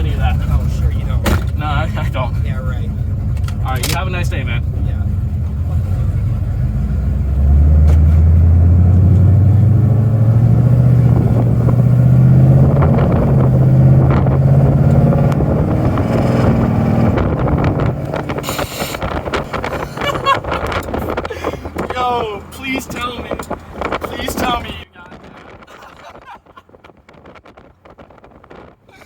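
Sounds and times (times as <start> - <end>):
car exhaust accelerating: 0.0 - 29.0.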